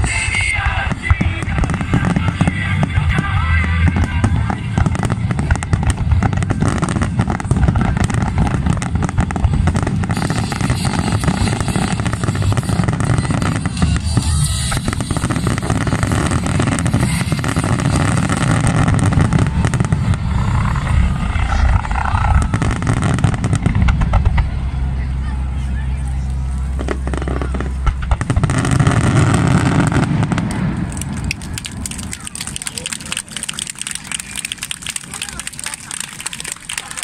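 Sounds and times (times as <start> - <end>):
fireworks booming and crackling: 0.0 - 25.2, 25.8 - 37.0.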